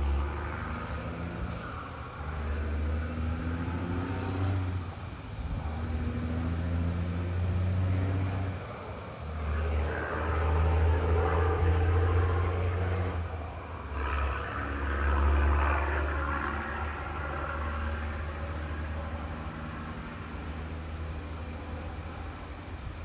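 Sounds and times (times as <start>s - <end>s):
low engine hum: 0.0s - 23.0s
tyre noise of passing car: 0.0s - 23.0s.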